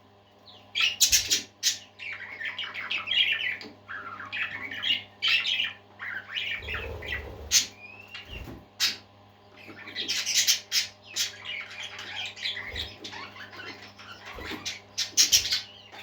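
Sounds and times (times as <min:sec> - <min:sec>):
parakeets chirping and warbling: 0:00.2 - 0:16.0.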